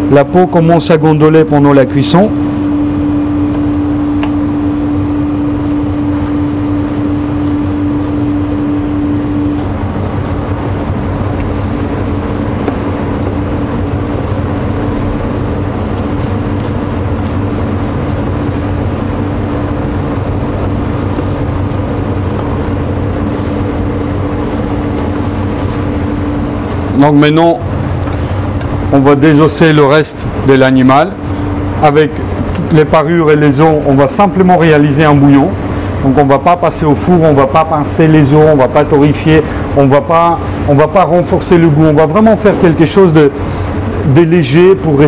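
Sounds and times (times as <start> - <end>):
machine drone with hum: 0.0 - 45.0.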